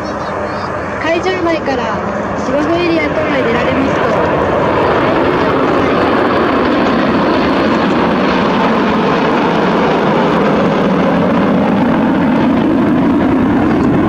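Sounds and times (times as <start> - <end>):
jets flying overhead: 0.0 - 14.0.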